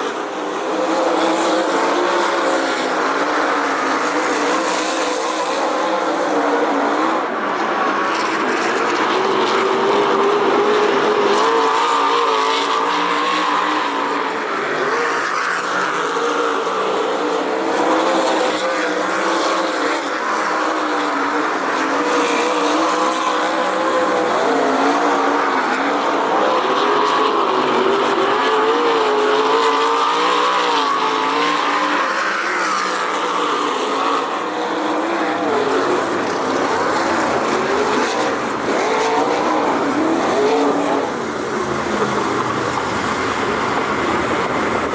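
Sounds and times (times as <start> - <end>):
race car engines roaring: 0.0 - 44.9.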